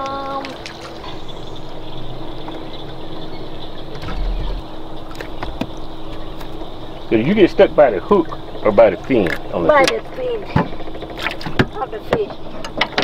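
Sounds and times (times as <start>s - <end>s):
open boat noise: 0.0s - 13.0s.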